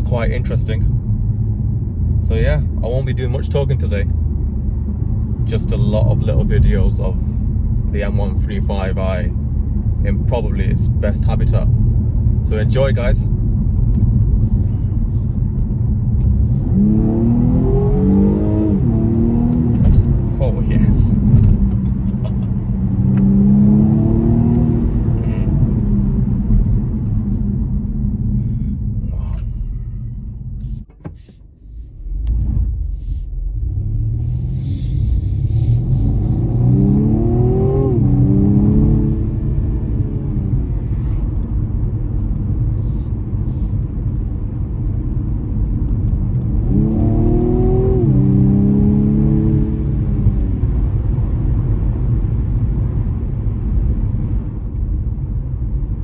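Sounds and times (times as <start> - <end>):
car engine accelerating: 7.8 - 56.0.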